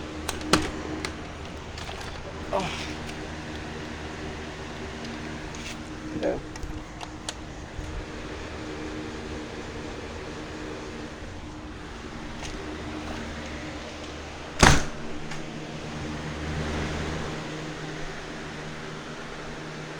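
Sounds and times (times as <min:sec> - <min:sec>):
box fan humming: 0:00.0 - 0:19.9.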